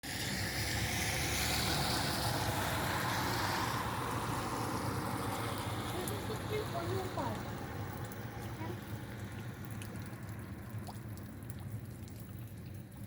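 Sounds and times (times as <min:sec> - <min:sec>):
motor vehicle rumble: 0:00.0 - 0:13.0.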